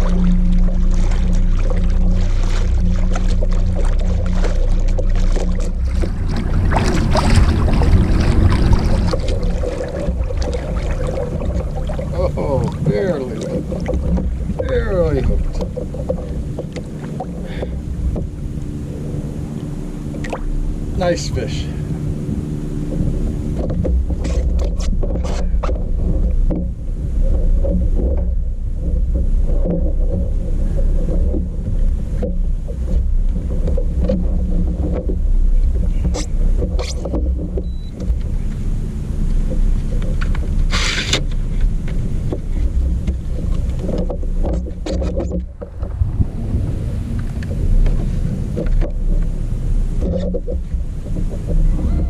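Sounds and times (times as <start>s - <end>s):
water against a kayak: 0.0s - 52.0s
wind rumbling on microphone: 0.0s - 52.0s.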